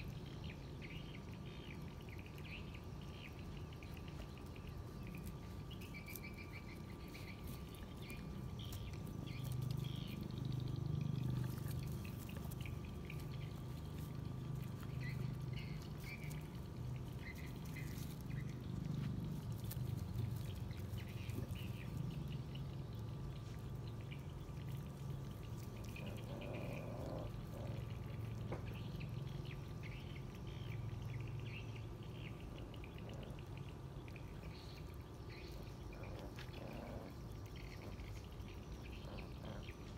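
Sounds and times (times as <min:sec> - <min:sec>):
puppies chewing and lapping: 0:00.0 - 0:39.9.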